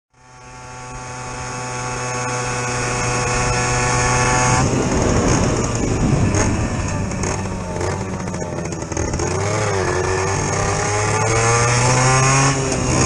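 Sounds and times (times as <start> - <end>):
moped engine running: 0.1 - 13.0.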